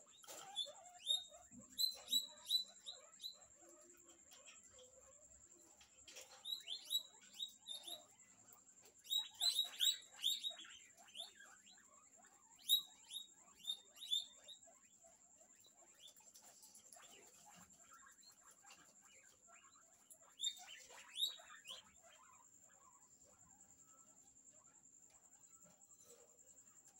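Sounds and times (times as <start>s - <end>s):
guinea pigs squeaking: 0.0s - 26.9s.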